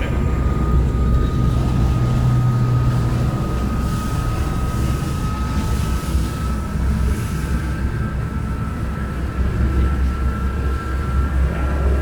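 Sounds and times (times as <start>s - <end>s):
boat engines rumbling: 0.0s - 12.0s
thin steady whine: 0.0s - 12.0s.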